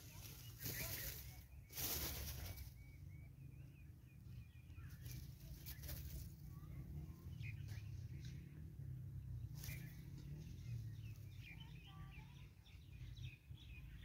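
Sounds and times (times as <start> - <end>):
bird chirping: 0.0 - 14.0
steady low rumble: 0.0 - 14.0.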